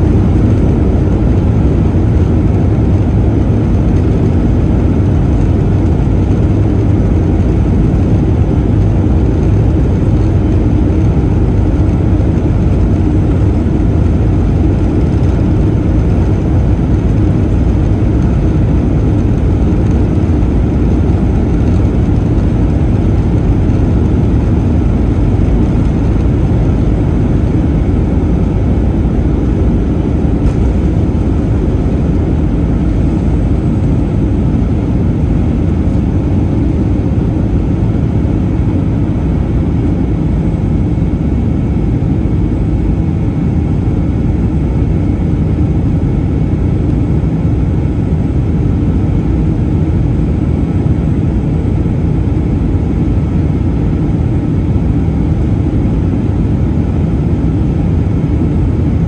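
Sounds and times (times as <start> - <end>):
jet engine and cabin noise: 0.0 - 59.0.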